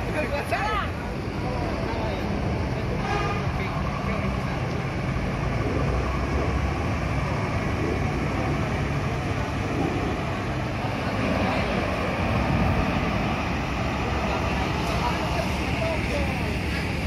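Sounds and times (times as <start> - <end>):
bus diesel engines rumbling: 0.0 - 17.0.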